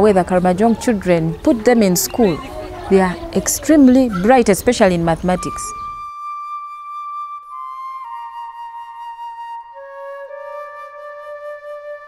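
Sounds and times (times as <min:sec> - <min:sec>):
slow wind instrument melody: 0:02.0 - 0:12.0.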